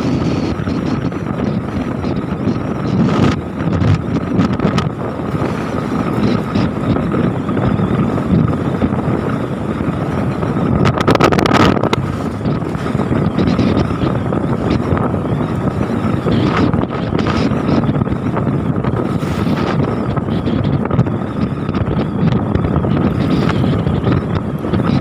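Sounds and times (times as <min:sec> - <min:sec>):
motorcycle engine cruising: 0:00.0 - 0:25.0
wind rushing over microphone: 0:00.0 - 0:25.0.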